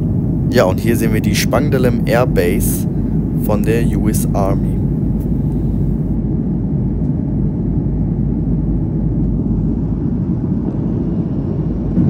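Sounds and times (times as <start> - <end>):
airliner engine rumble in cabin: 0.0 - 12.0.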